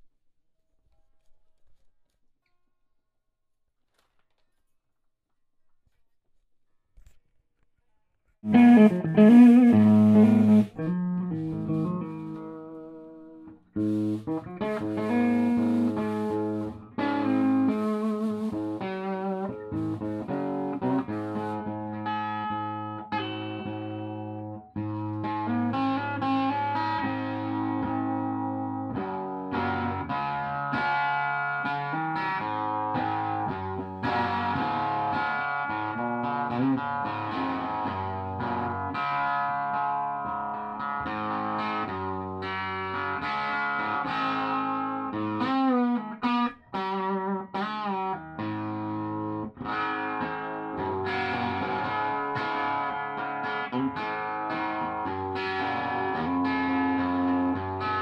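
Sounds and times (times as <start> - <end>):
electric guitar playing: 8.4 - 58.0.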